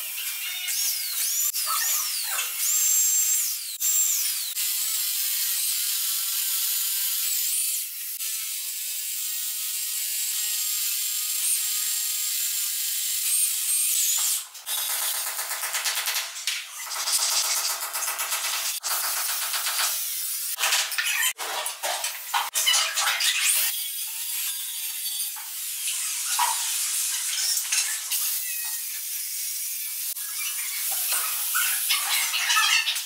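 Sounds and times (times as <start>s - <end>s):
rotary hammer drill chiseling concrete: 0.0s - 21.4s, 22.1s - 33.0s.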